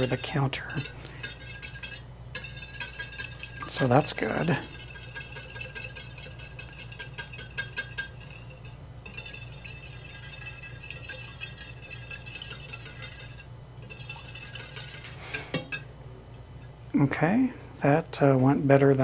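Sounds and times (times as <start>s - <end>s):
whisk rattling against plate: 0.0s - 15.8s.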